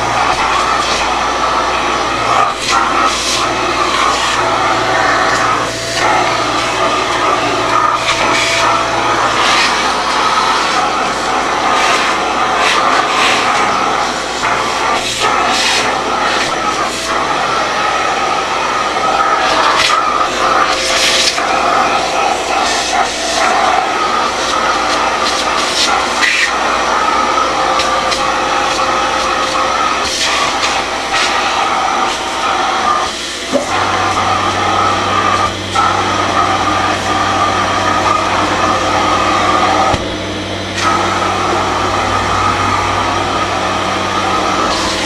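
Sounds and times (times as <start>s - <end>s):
vacuum cleaner motor whine: 0.0s - 45.0s.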